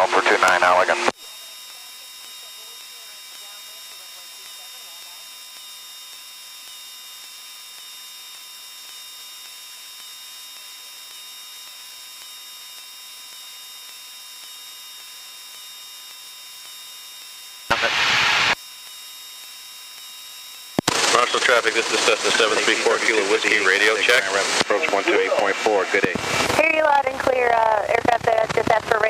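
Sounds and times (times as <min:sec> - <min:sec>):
radio static burst: 0:00.0 - 0:18.6, 0:19.2 - 0:29.0
faint electrical whine: 0:00.0 - 0:29.0
radio hiss: 0:00.0 - 0:29.0.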